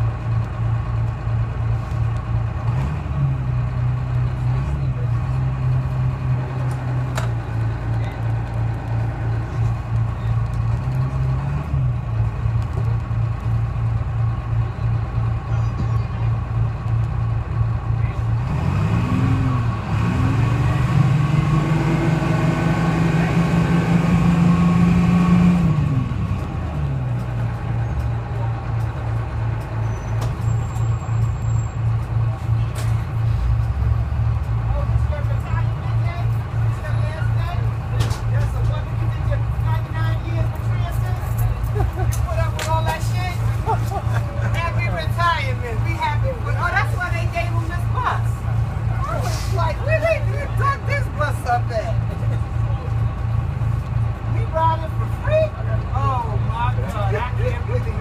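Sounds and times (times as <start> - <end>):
diesel bus engine droning: 0.0 - 58.0.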